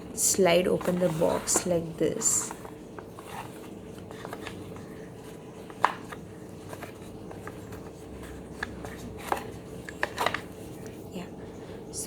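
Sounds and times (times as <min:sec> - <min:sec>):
light taps and scrapes: 0:00.8 - 0:11.0.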